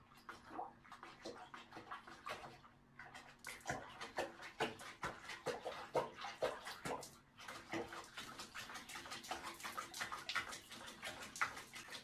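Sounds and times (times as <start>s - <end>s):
bathwater splashing in a tub: 0.0s - 12.0s.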